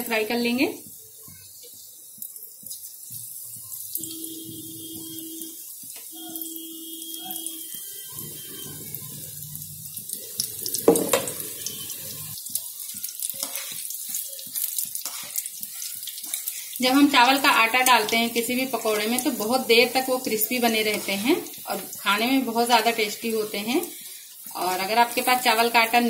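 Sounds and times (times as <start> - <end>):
food deep-frying in hot oil: 0.0 - 26.0.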